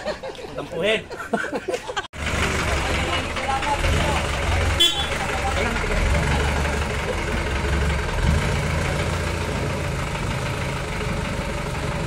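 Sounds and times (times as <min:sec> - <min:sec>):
engine idling: 0:02.2 - 0:12.0.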